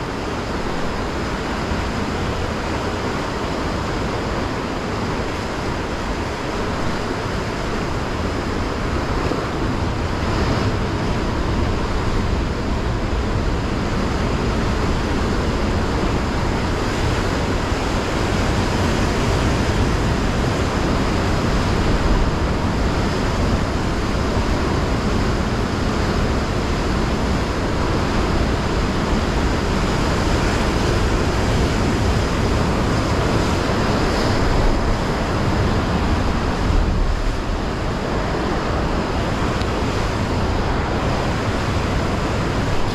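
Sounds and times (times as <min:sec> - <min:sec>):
sea surf breaking on rocks: 0:00.0 - 0:42.9.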